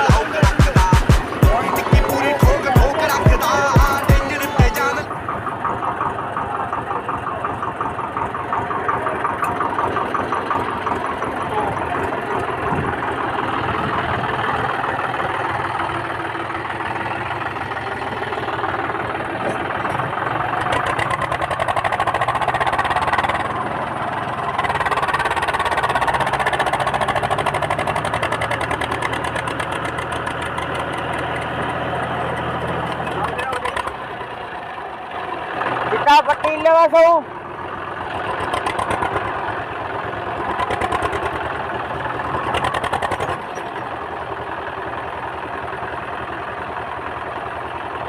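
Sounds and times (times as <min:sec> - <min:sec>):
tractor engine knocking: 0:00.0 - 0:48.0.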